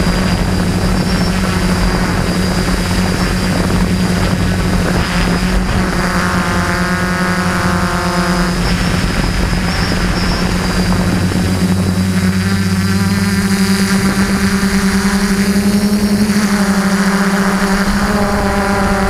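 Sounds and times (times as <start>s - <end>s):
high-pitched whine: 0.0s - 19.0s
quadcopter propellers buzzing: 0.0s - 19.0s.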